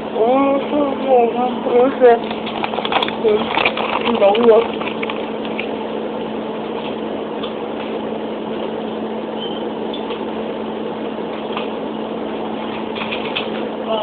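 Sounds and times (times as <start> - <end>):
refrigerator humming: 0.0 - 14.0.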